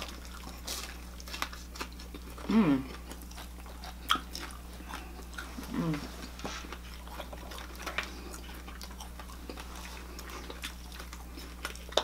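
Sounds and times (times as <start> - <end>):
chewing clicks and smacks: 0.0 - 5.5, 6.7 - 12.0
low electrical hum: 0.0 - 12.0.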